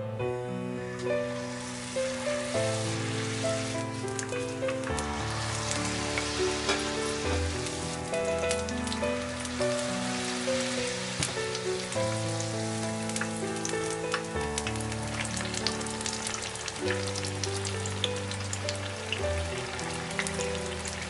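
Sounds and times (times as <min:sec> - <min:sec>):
soft background music: 0:00.0 - 0:21.0
onion rings sizzling in oil: 0:00.9 - 0:21.0.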